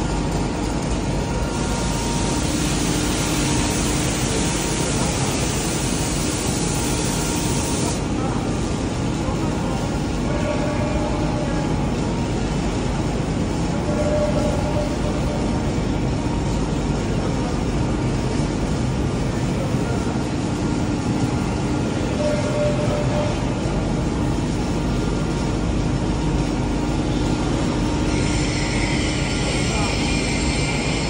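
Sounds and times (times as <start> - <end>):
factory machinery rumble: 0.0 - 31.0.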